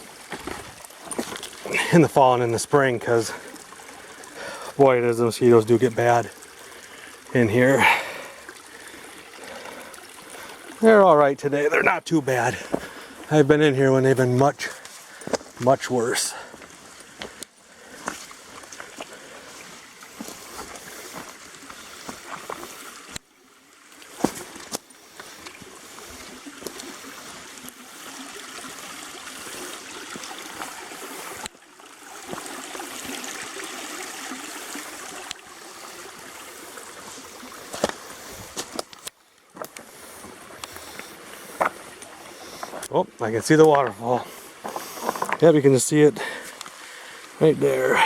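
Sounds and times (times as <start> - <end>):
creek trickling over rocks: 0.0 - 48.0.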